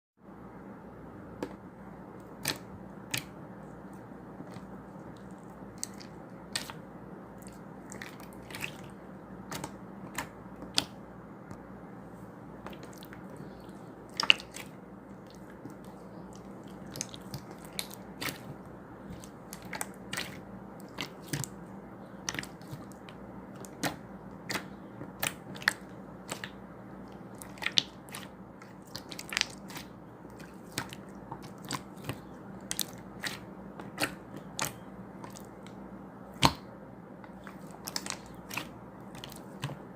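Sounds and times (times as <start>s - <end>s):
steady low hum: 0.2s - 39.9s.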